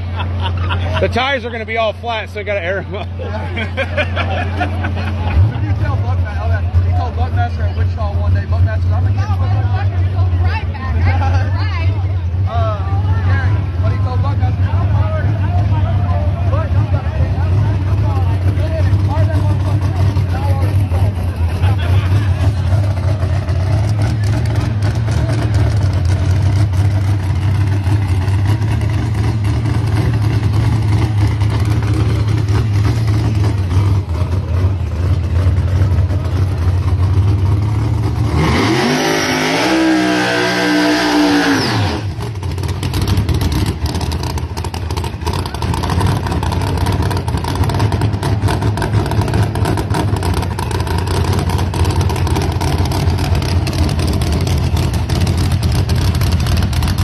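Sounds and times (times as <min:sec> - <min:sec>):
race car engines running: 0:00.0 - 0:57.0
engine revving: 0:04.6 - 0:11.2, 0:12.6 - 0:57.0.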